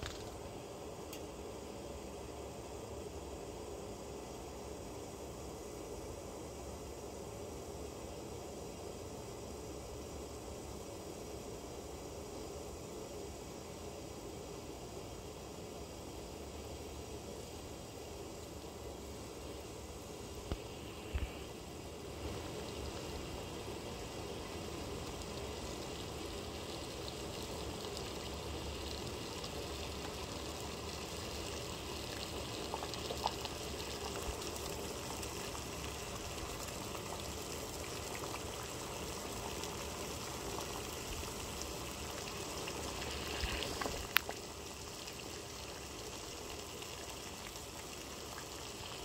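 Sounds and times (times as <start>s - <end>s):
water boiling in saucepan: 0.0s - 49.0s.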